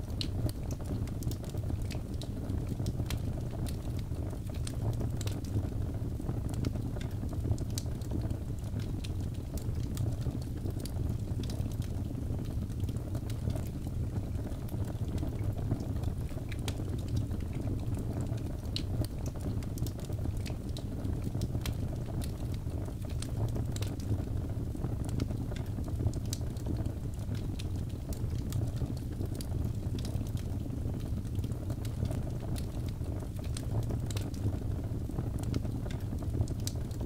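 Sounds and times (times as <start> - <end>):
log fire crackling: 0.0 - 37.0.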